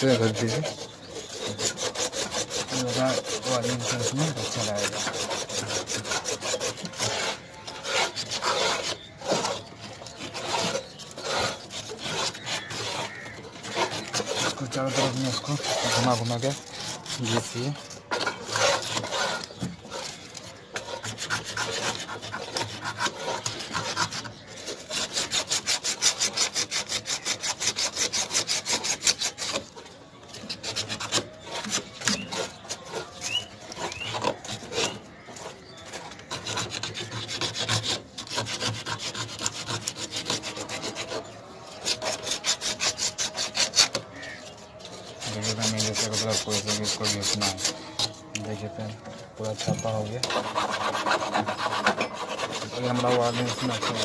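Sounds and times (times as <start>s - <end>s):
scraping metal pipe: 0.0s - 54.0s.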